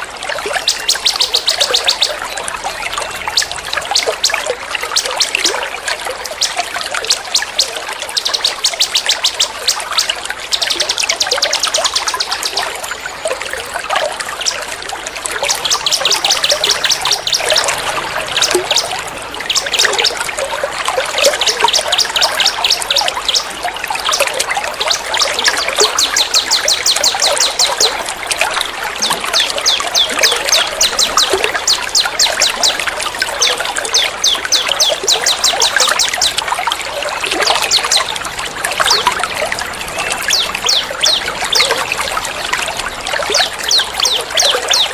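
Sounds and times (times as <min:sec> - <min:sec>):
running water trickling: 0:00.0 - 0:44.9
songbirds singing sharp high notes: 0:00.4 - 0:05.6, 0:06.3 - 0:20.5, 0:21.1 - 0:44.9.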